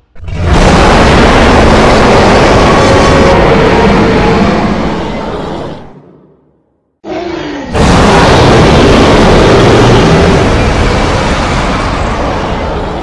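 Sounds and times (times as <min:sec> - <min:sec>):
loud long roar: 0:00.1 - 0:06.0, 0:07.1 - 0:13.0
growl with falling pitch: 0:00.2 - 0:06.0, 0:07.1 - 0:13.0.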